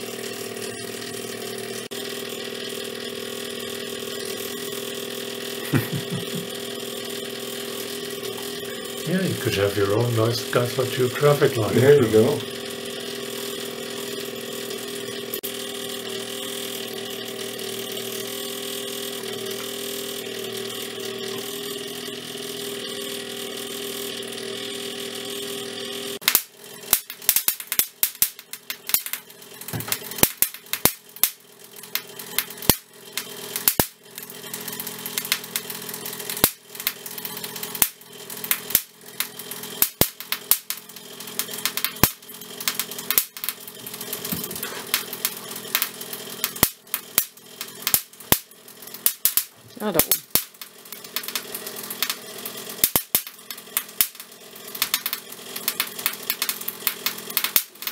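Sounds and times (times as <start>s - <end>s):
high-voltage sparks cracking: 0.0s - 57.9s
hum with high whine: 0.0s - 57.9s.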